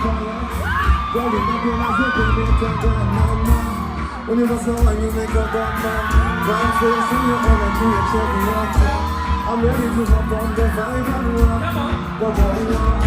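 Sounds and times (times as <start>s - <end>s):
crowd whooping: 0.0s - 13.0s
live pop music: 0.0s - 13.0s
person singing: 0.0s - 13.0s.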